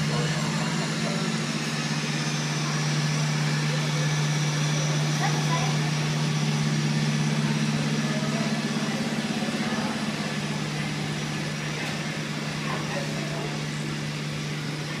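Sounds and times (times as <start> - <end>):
faint murmur of voices: 0.0 - 15.0
steady low drone: 0.0 - 15.0.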